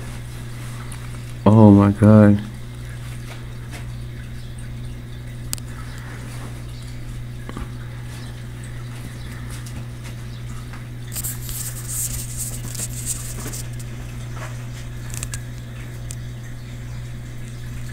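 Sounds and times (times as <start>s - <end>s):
steady low hum: 0.0s - 17.9s
water trickling and dripping: 0.0s - 17.9s.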